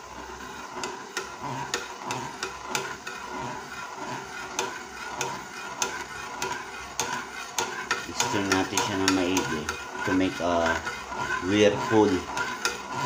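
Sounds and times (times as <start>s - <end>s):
spoon stirring water in pot: 0.4s - 13.0s.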